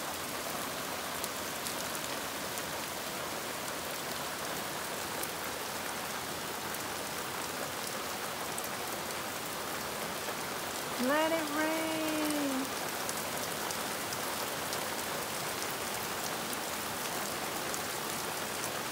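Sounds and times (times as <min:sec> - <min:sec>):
hard rain on lawn and foliage: 0:00.0 - 0:18.9.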